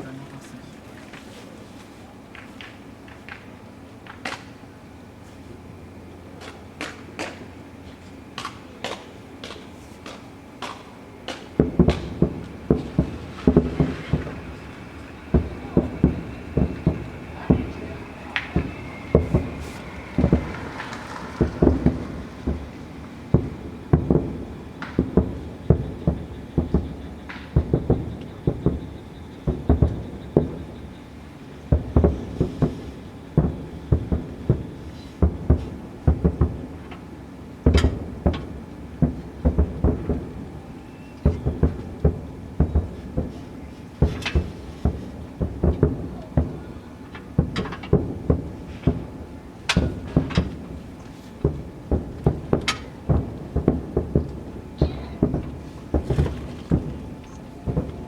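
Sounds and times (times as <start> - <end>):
fireworks booms and cracks: 6.3 - 58.0.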